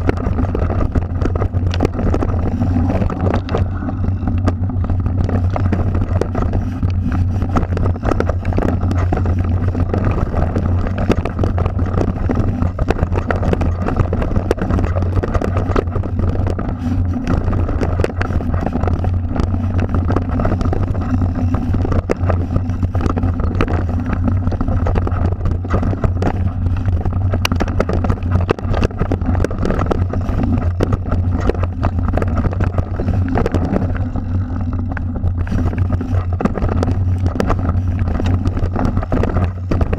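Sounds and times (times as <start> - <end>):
bike rattles and knocks: 0.0 - 39.9
bike tyres rumbling over dirt: 0.0 - 39.9.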